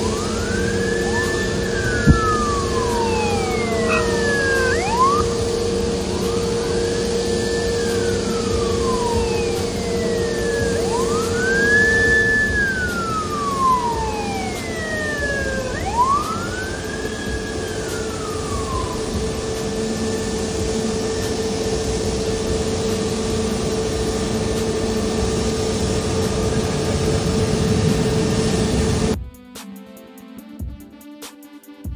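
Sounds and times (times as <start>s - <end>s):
mechanical hum and rumble: 0.0s - 29.2s
police siren wailing: 0.0s - 29.2s.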